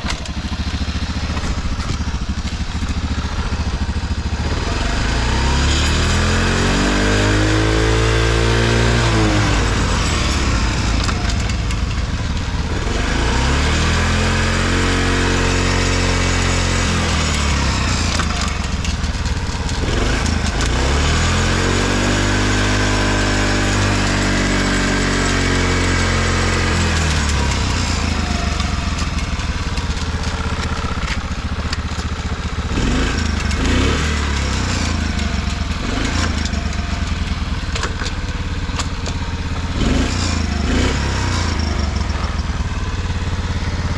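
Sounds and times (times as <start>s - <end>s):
small engine revving: 0.0s - 43.9s.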